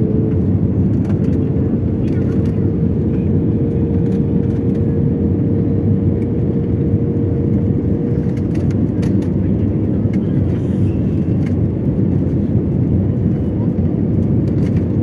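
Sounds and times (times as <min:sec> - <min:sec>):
airliner engine and airflow noise: 0:00.0 - 0:15.0.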